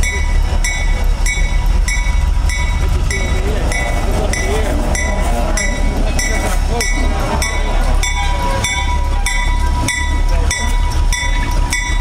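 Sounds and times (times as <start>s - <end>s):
diesel locomotive rumble: 0.0s - 12.0s
locomotive bell ringing: 0.0s - 12.0s.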